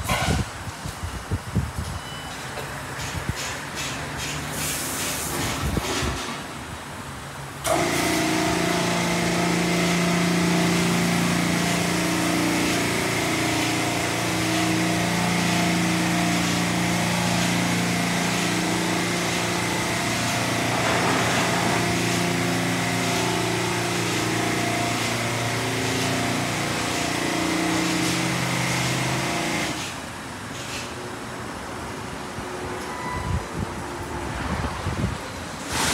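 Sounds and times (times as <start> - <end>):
dryer blowers rushing air: 3.0 - 35.9.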